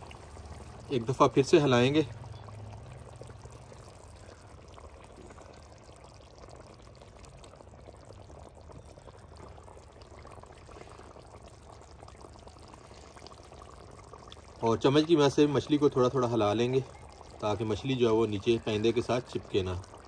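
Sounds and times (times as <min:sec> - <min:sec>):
gravy bubbling and crackling: 0:00.0 - 0:20.0.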